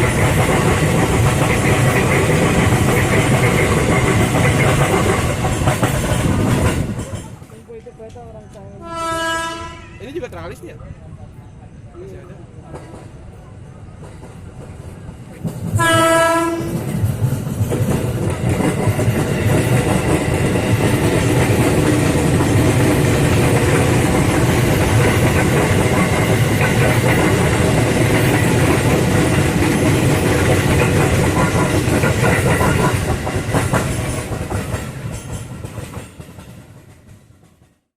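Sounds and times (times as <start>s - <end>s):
electric train passing: 0.0s - 37.8s.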